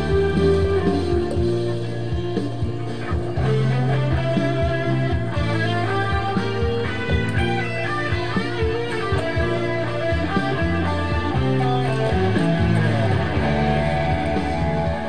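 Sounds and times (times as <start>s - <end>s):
electric guitar single notes: 0.0s - 15.0s
low steady bass line: 0.0s - 15.0s.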